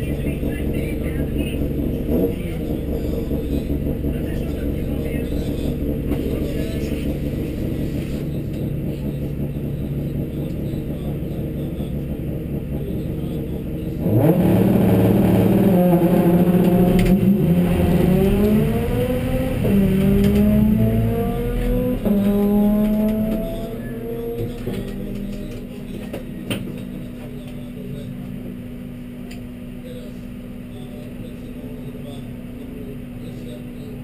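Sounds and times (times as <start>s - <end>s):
car engine revving and accelerating: 0.0s - 29.1s.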